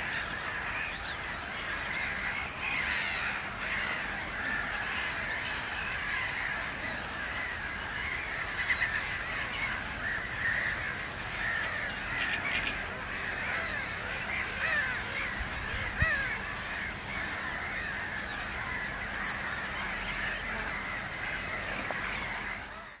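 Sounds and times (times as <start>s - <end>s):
chorus of birds calling: 0.0s - 23.0s.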